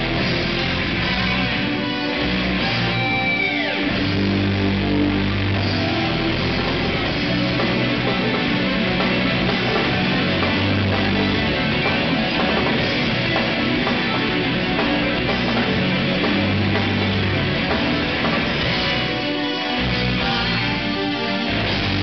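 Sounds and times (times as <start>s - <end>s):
heavy metal band playing: 0.0s - 22.0s.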